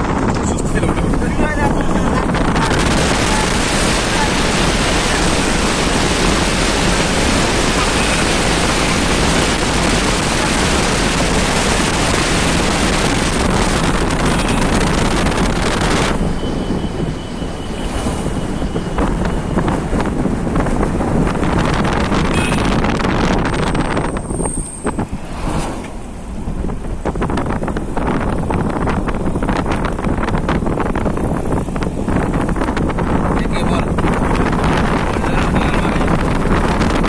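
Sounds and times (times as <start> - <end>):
car road noise: 0.0 - 37.0
wind rushing over microphone: 0.0 - 37.0.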